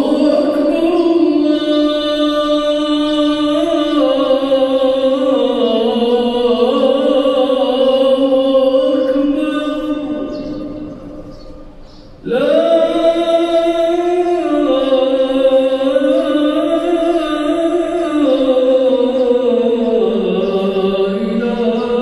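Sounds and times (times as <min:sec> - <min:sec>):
person chanting: 0:00.0 - 0:22.0.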